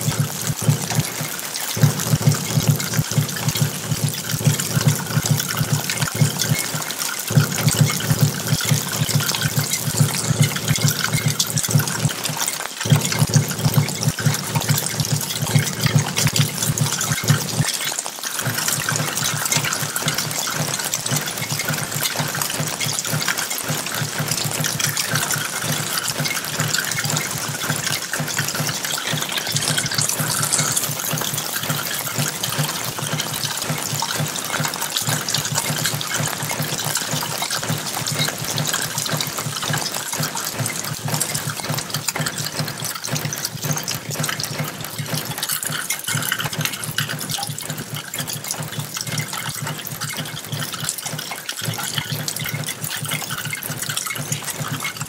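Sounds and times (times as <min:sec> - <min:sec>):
rainwater gushing and splashing: 0:00.0 - 0:55.0.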